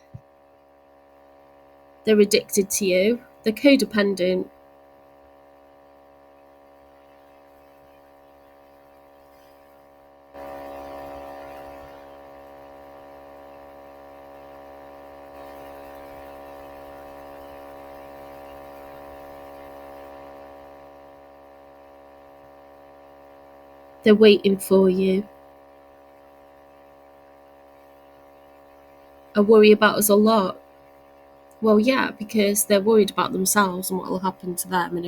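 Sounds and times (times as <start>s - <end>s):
electrical hum and buzz: 0.0s - 35.0s.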